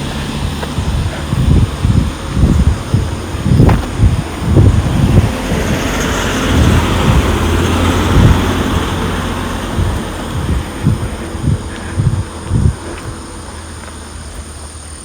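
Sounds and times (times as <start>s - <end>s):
steady rushing sound: 0.0s - 14.2s
wind buffeting microphone: 0.0s - 15.0s.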